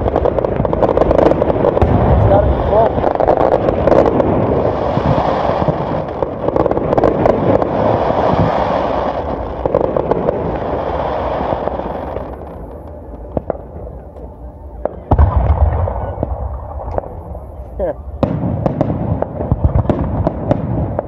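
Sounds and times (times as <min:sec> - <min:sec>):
firework bangs and crackling: 0:00.0 - 0:21.0.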